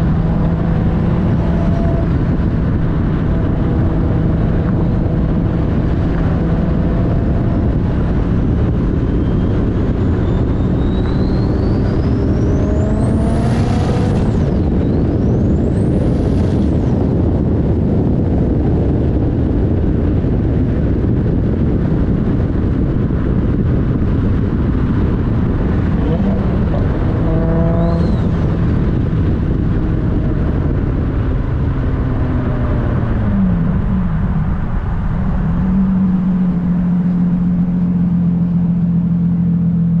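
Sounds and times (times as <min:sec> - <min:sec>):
car engine under load: 0:00.0 - 0:40.0.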